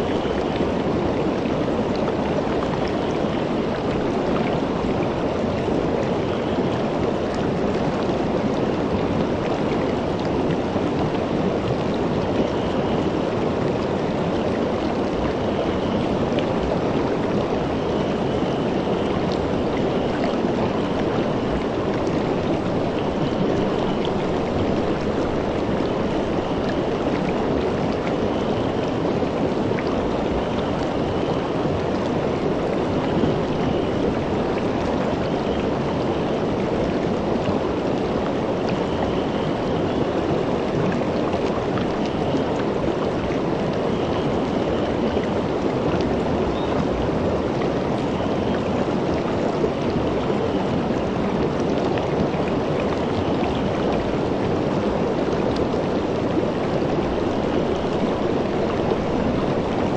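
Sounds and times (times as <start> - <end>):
river rushing over stones: 0.0 - 59.9.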